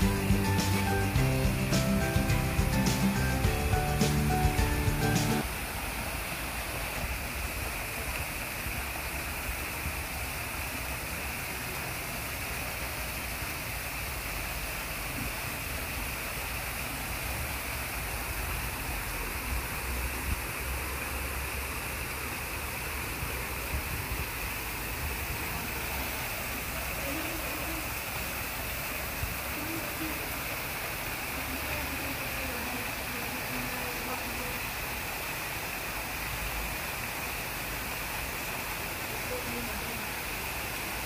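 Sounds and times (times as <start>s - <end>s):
falling water rushing: 0.0s - 41.0s.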